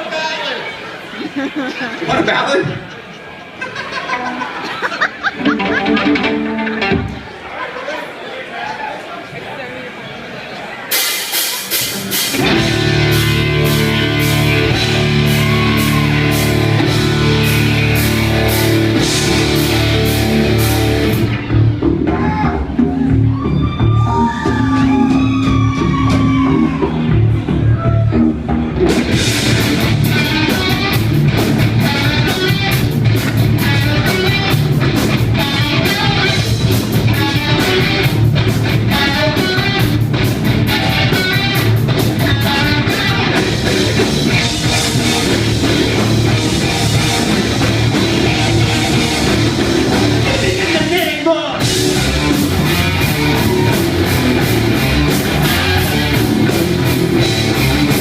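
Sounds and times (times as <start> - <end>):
live rock band playing: 4.0 - 7.6, 10.8 - 58.0.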